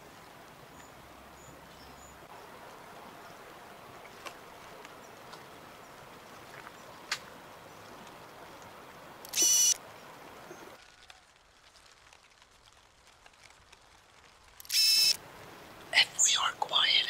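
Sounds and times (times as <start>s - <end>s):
faint background noise: 0.0s - 17.0s.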